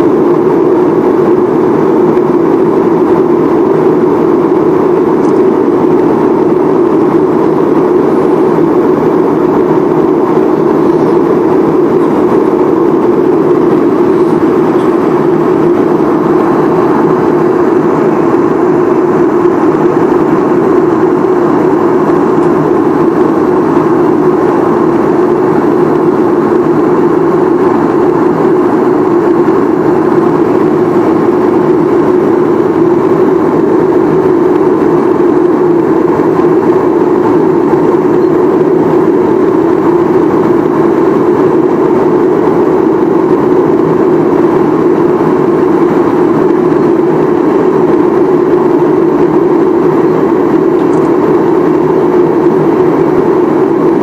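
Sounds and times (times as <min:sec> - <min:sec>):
jet airliner cabin noise: 0:00.0 - 0:54.0.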